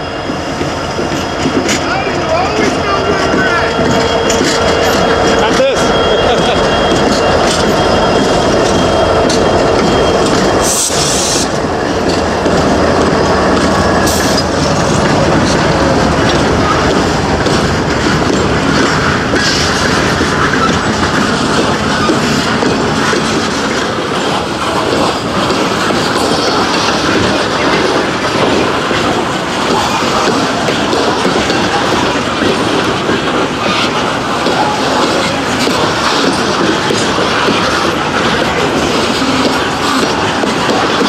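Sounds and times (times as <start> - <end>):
diesel locomotive engine running: 0.0 - 41.0
wheels clicking over rail joints: 0.3 - 41.0.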